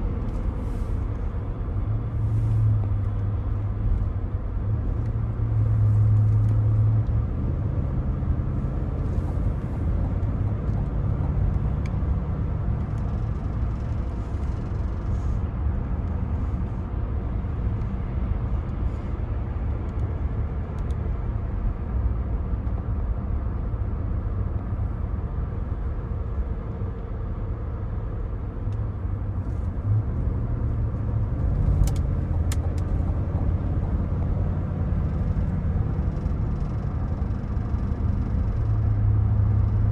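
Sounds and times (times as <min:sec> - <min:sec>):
car engine droning: 0:00.0 - 0:20.0, 0:22.7 - 0:39.9
road and tyre noise: 0:00.0 - 0:39.9.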